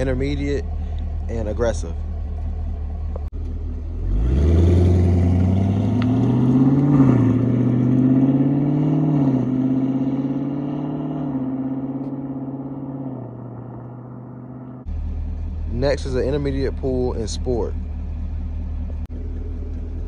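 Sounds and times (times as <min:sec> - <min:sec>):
car engine idling and accelerating: 0:00.0 - 0:20.0.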